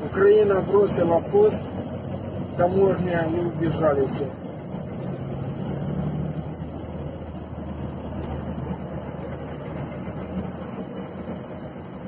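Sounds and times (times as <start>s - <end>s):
armoured vehicles engine rumble: 0.0s - 12.0s
track and road noise: 0.0s - 12.0s.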